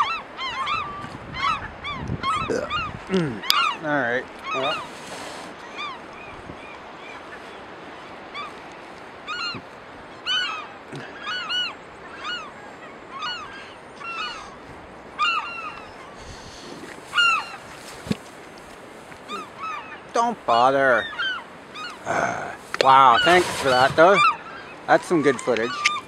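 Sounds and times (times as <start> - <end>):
birds honking: 0.0 - 8.6, 9.2 - 26.0.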